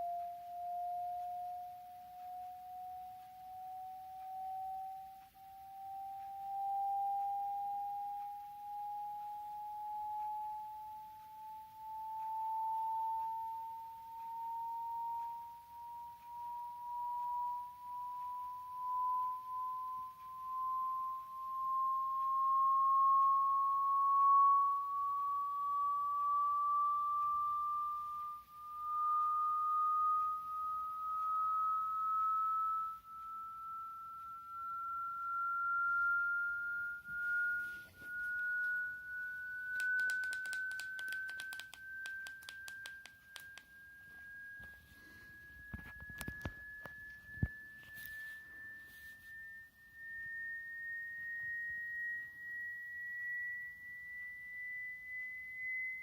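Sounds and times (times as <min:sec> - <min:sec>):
rising sine tone: 0:00.0 - 0:56.0.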